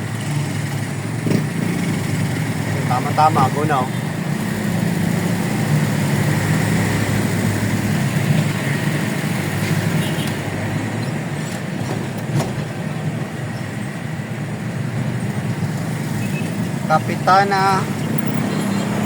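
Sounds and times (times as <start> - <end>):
vehicle engine and road drone: 0.0 - 19.0.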